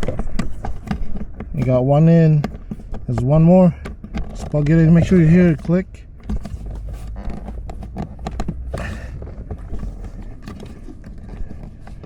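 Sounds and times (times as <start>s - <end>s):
plastic taps and rustling: 0.0s - 12.0s.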